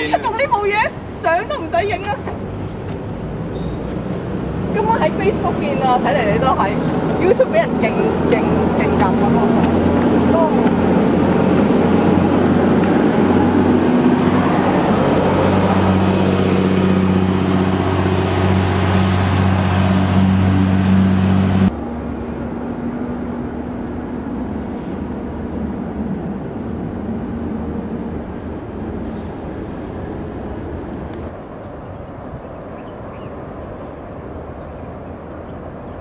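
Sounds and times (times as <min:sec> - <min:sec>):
engine hum: 0:00.0 - 0:36.0
outdoor noise: 0:00.0 - 0:36.0.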